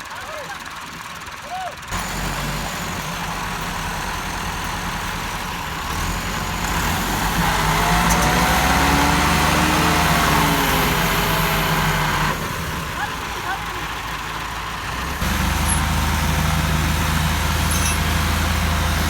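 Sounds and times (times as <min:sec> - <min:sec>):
tractor engine under load: 0:00.0 - 0:19.0.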